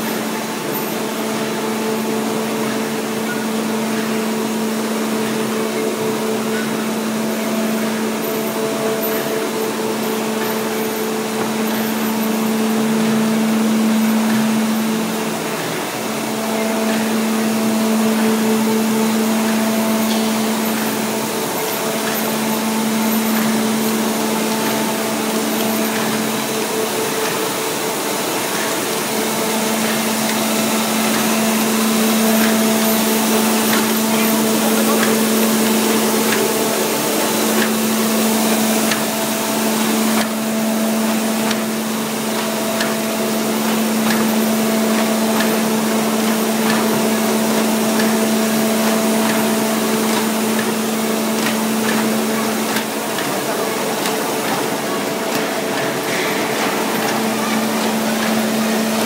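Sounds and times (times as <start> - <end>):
paper bag machine humming: 0.0 - 59.0.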